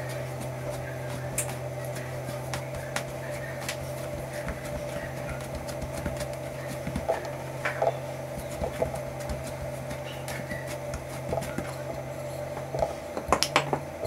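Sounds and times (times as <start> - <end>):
hands handling bread dough: 0.0 - 13.3
dough taps and slaps: 0.0 - 14.0
steady low hum: 0.0 - 14.0.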